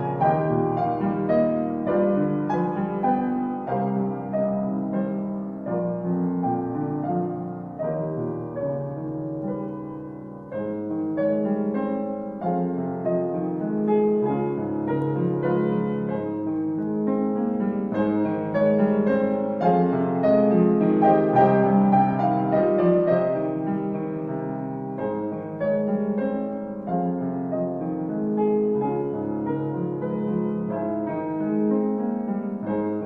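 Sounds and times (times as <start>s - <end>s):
solo piano piece: 0.0s - 33.0s.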